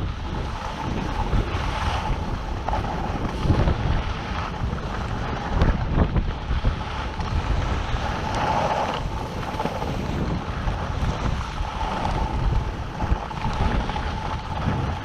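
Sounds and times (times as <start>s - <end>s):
wind buffeting microphone: 0.0s - 15.0s
skis hissing over snow: 0.4s - 5.6s, 6.6s - 15.0s.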